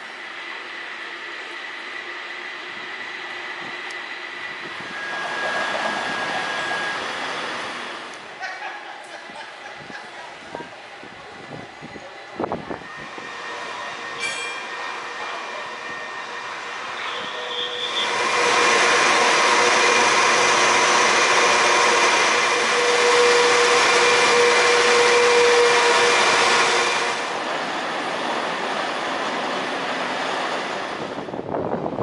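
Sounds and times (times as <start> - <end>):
cable car machinery whirring rumble: 0.0 - 32.0.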